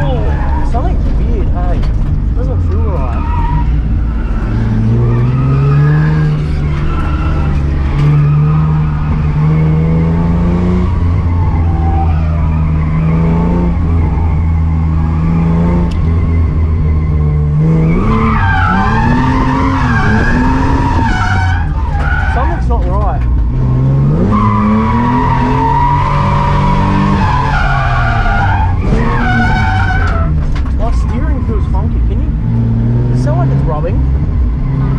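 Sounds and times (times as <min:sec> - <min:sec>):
tyres squealing: 0:00.0 - 0:09.9, 0:11.2 - 0:23.3, 0:24.2 - 0:32.4
race car engine revving: 0:00.0 - 0:34.9.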